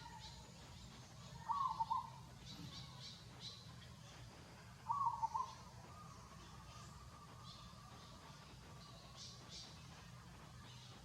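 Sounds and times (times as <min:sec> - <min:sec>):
faint high chirping: 0:00.0 - 0:11.0.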